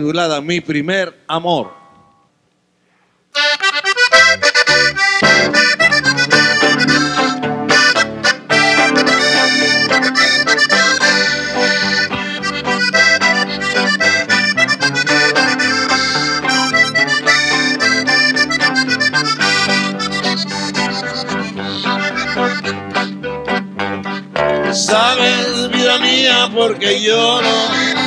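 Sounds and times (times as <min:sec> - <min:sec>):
button accordion melody: 0:03.4 - 0:28.0
strummed guitar: 0:03.4 - 0:28.0
electric bass line: 0:04.0 - 0:28.0.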